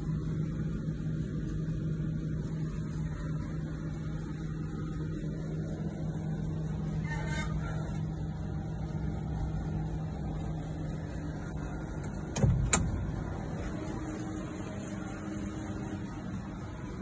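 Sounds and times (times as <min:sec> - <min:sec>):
diesel generator engine droning: 0:00.0 - 0:17.0.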